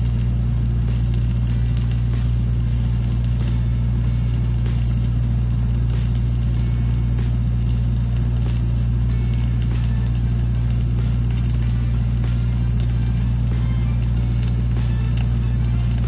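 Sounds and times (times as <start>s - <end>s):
welding arc crackle: 0.0s - 16.0s
welding machine engine drone: 0.0s - 16.0s.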